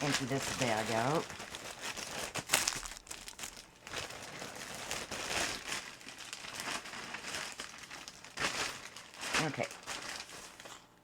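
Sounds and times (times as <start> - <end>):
plastic bag rustling: 0.0 - 10.8.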